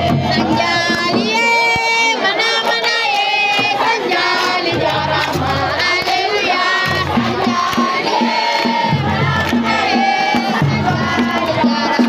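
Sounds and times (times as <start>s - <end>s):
low drum-like beat: 0.0s - 2.1s, 3.2s - 12.0s
voices singing long held notes: 0.0s - 12.0s.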